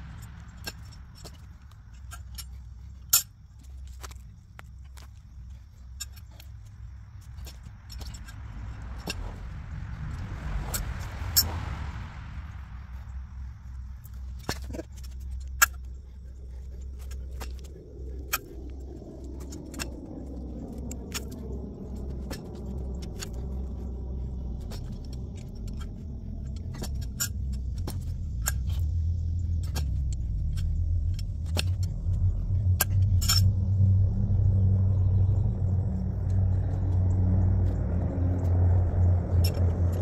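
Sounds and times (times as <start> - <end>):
vehicle rumble passing by: 0.0 - 3.0, 5.5 - 40.0.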